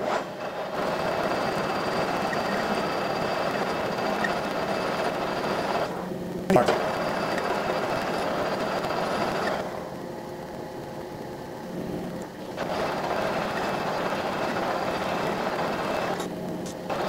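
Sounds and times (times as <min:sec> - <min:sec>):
metal lathe cutting: 0:00.0 - 0:06.1, 0:06.7 - 0:09.9, 0:12.4 - 0:17.0.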